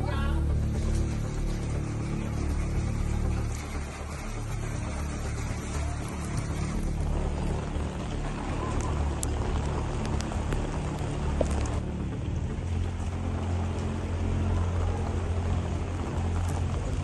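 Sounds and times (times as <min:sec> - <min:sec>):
noisy hiss: 0:00.0 - 0:17.0
vehicle engine rumbling: 0:00.0 - 0:17.0.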